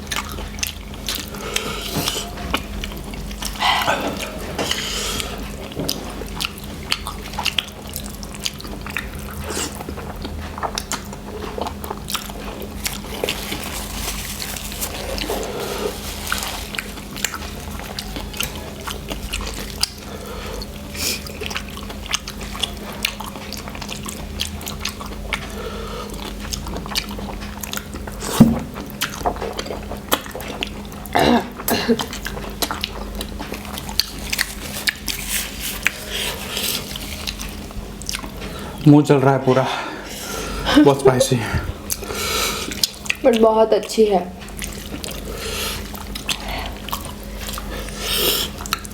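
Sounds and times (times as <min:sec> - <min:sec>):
people chewing noodles: 0:00.0 - 0:48.9
steady low hum: 0:00.0 - 0:48.9.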